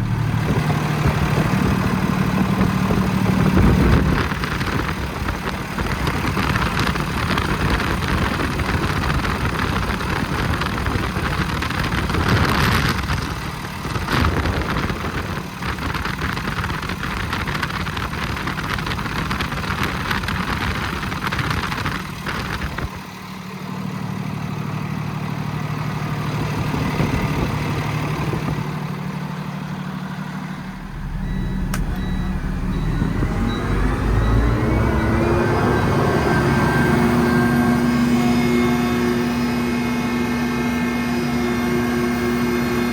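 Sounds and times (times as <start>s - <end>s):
road and wind noise: 0.0s - 42.9s
truck diesel engine drone: 0.0s - 42.9s.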